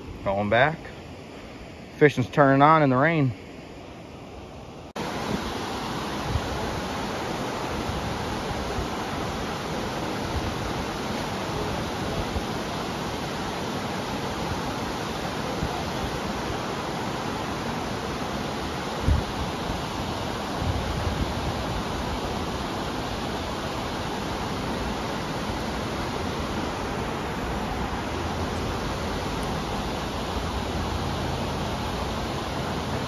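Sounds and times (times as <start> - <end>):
rain hissing: 4.8 - 33.0.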